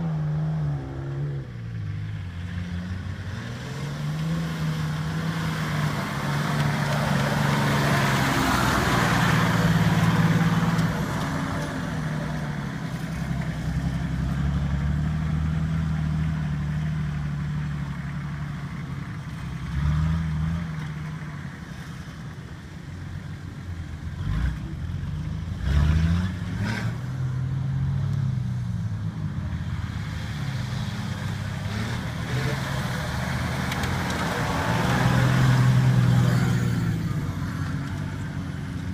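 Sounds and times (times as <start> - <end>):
off-road vehicle engine revving: 0.0 - 22.0, 24.0 - 38.9.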